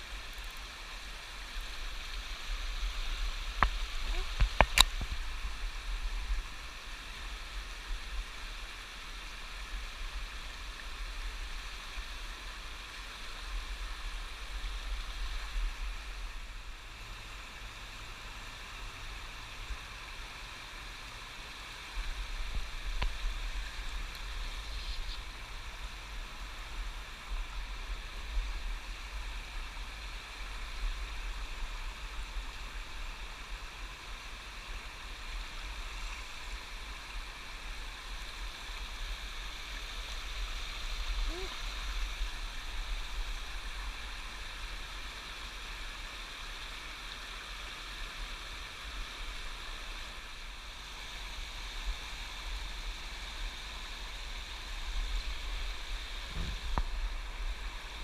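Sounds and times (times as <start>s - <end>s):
river water rippling: 0.0s - 58.0s.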